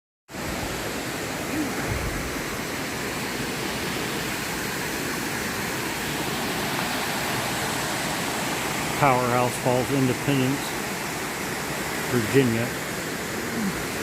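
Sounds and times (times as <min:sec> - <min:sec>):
waterfall rushing: 0:00.3 - 0:14.0.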